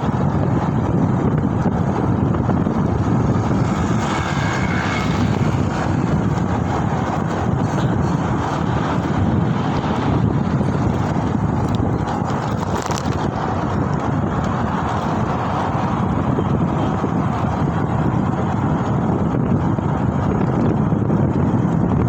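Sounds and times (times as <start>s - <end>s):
road and traffic noise: 0.0s - 22.0s
wind rushing on microphone: 0.0s - 22.0s.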